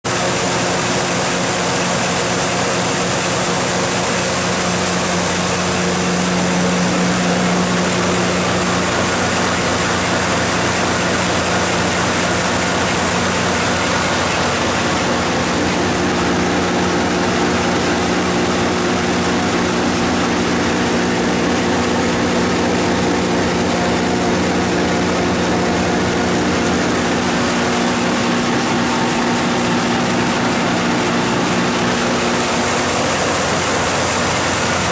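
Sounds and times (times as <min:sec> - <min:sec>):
generator engine droning: 0:00.1 - 0:34.9.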